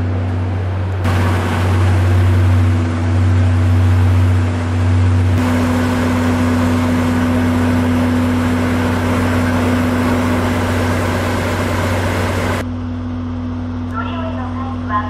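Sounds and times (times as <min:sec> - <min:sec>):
loud rushing noise: 0:00.0 - 0:12.6
diesel locomotive idling: 0:00.0 - 0:15.0.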